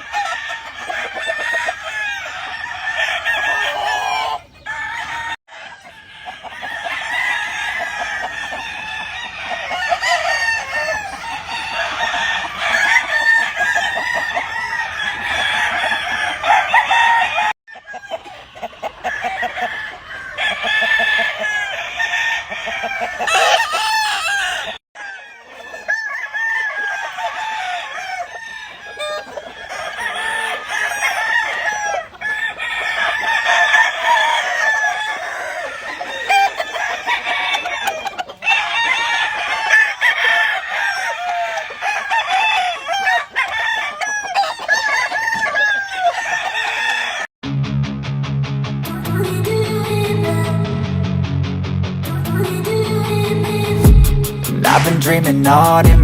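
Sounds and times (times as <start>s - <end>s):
chickens crowing and clucking: 0.0s - 47.4s, 48.8s - 56.0s.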